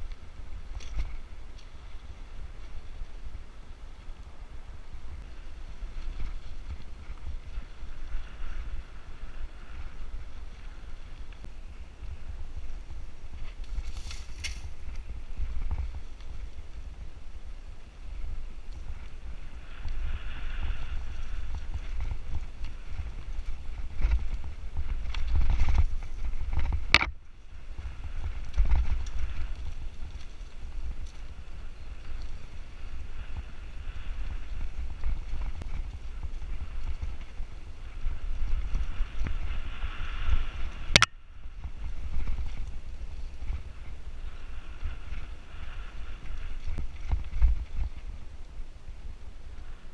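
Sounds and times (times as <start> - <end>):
bike rattling: 0.0 - 48.5
wind on microphone: 0.0 - 49.9.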